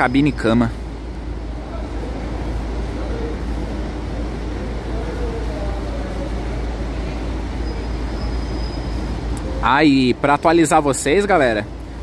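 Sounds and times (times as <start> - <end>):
coach diesel engine rumbling: 0.0 - 12.0.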